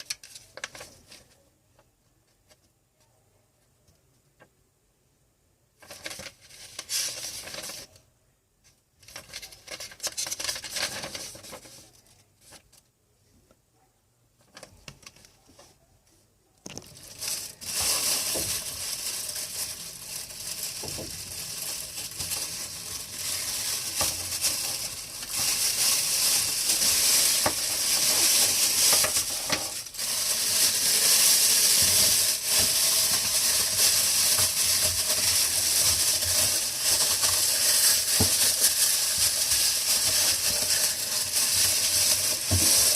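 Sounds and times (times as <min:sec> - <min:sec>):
handling rustling noises: 0:00.0 - 0:04.4, 0:05.8 - 0:13.6, 0:14.4 - 0:42.9.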